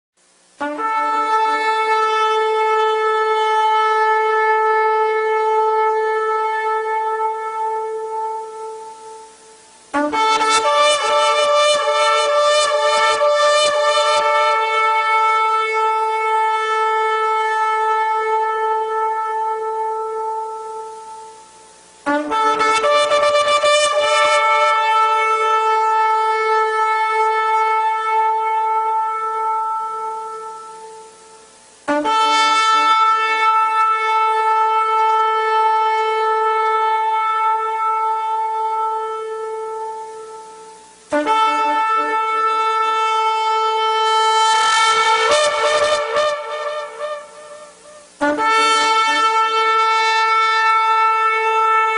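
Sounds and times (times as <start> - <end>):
shofar blasts: 0.5 - 51.9.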